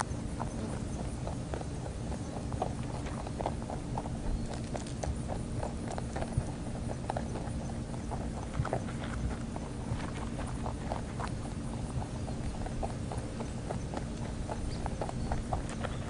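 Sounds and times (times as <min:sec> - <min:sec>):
rabbits crunching pellets: 0:00.0 - 0:16.0.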